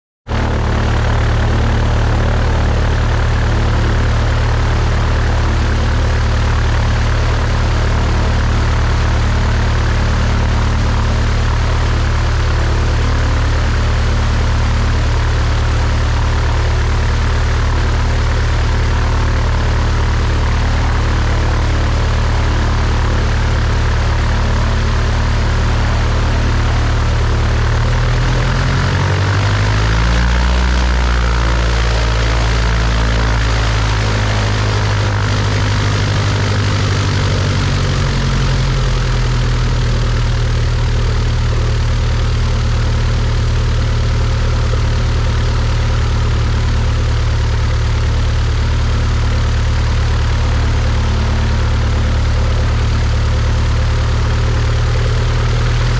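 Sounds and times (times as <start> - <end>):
propeller aircraft engine running: 0.3 - 55.9.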